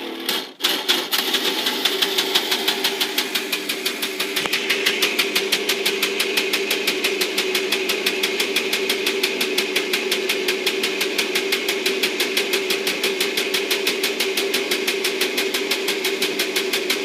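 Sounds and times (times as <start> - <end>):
toy motor humming and clicking: 0.3 - 17.0.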